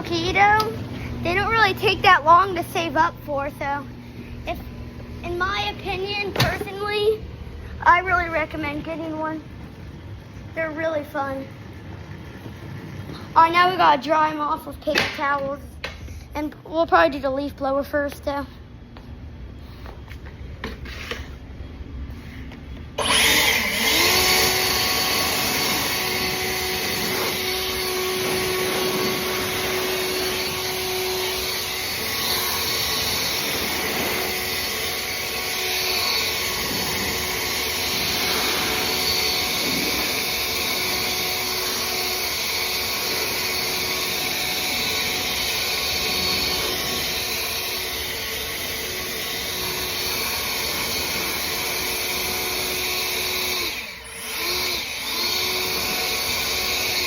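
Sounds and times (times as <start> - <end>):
leaf blower whining: 0.0 - 13.8, 22.2 - 57.0.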